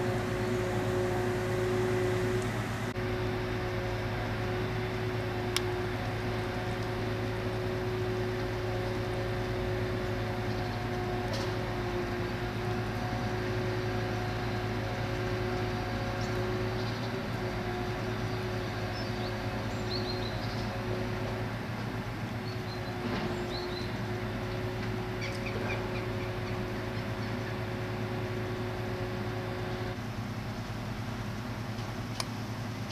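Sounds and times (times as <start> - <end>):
crane truck engine and hydraulics: 0.0 - 32.9.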